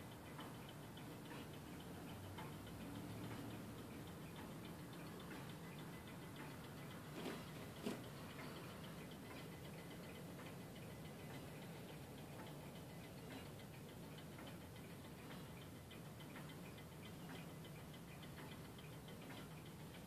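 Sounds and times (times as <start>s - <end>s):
clock ticking faintly: 0.0s - 20.0s.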